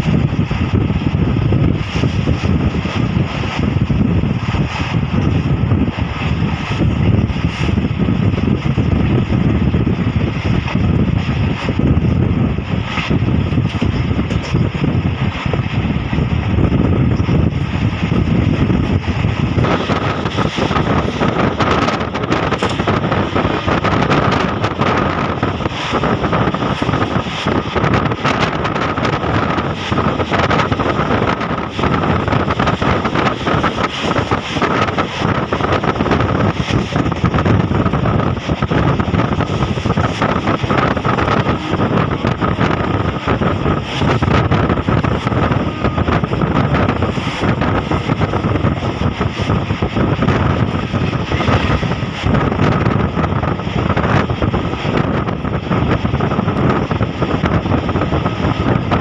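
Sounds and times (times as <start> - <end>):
train wheels rushing on rail: 0.0 - 59.0
wind buffeting microphone: 0.0 - 59.0.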